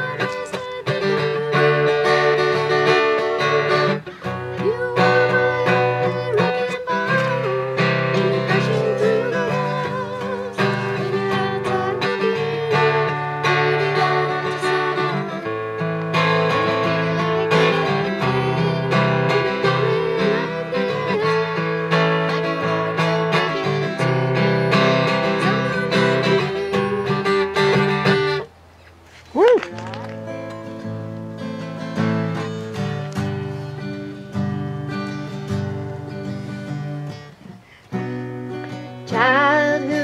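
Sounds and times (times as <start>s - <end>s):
acoustic guitar playing: 0.0s - 40.0s.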